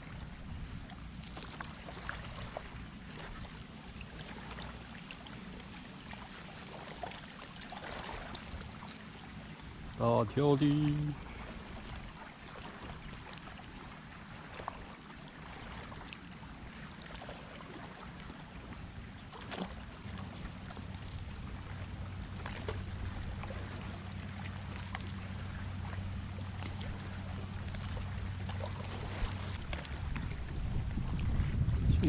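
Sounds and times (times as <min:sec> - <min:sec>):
distant boat engine drone: 0:00.0 - 0:31.0
water and wind hiss: 0:00.0 - 0:32.0.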